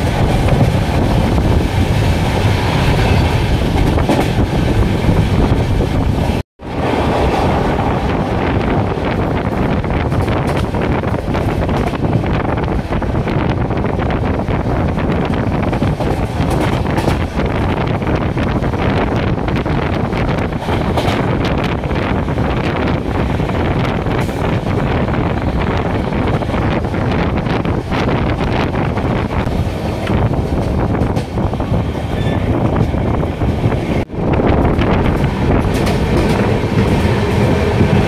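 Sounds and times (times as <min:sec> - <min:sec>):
train running noise: 0:00.0 - 0:38.0
wind buffeting microphone: 0:00.0 - 0:38.0.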